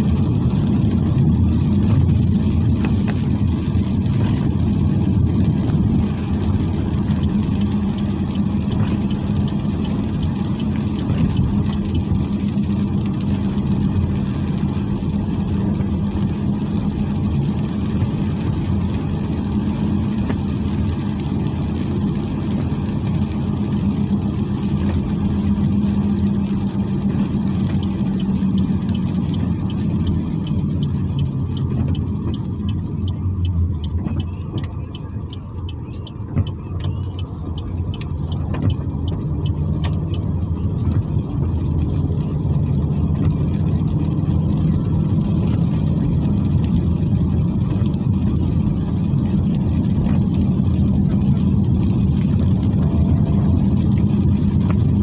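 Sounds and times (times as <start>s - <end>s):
car engine and tyres on wet road: 0.0s - 55.0s.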